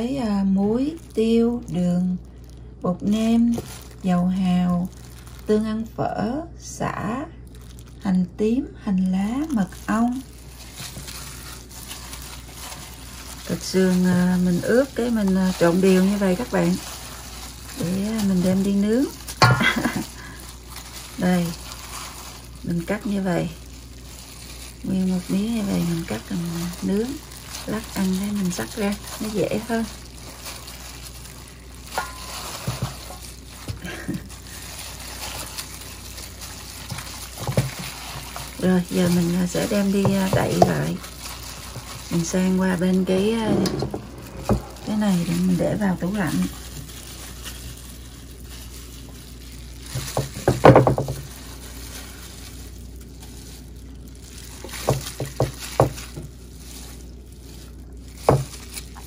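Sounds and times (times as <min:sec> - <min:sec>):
wet squishing of meat and marinade: 0:00.0 - 0:59.0.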